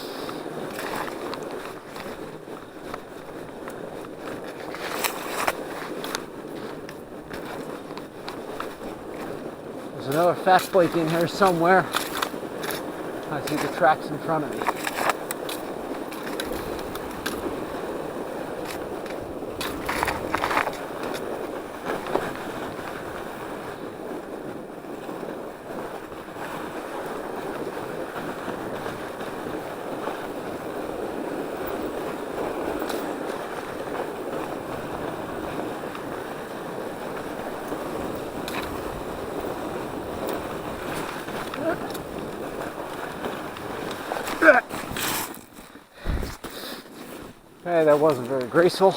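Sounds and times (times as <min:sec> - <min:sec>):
bike tyres rushing over snow: 0:00.0 - 0:48.9.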